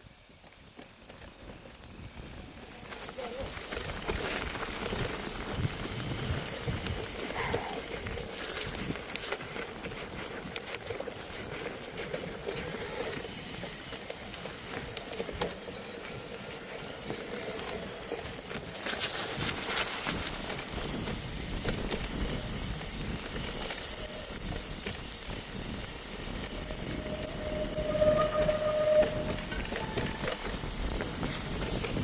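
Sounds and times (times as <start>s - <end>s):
bicycle rolling on snow: 0.0s - 32.0s
bicycle clicks and rattles: 0.1s - 32.0s.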